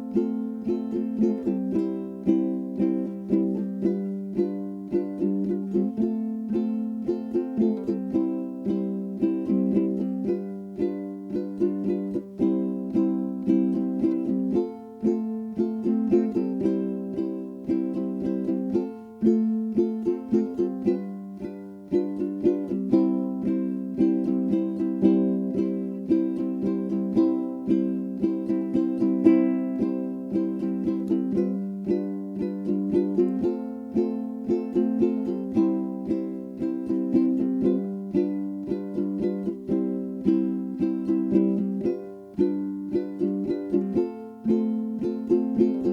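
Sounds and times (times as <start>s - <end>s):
plucked strings playing chords: 0.0s - 45.9s.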